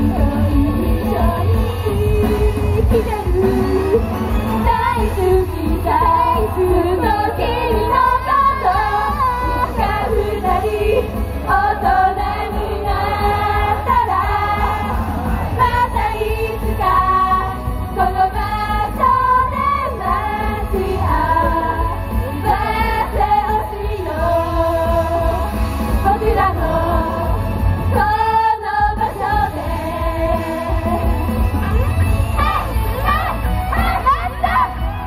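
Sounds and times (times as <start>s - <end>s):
group of girls singing pop song: 0.0s - 31.4s
backing track with heavy bass: 0.0s - 35.0s.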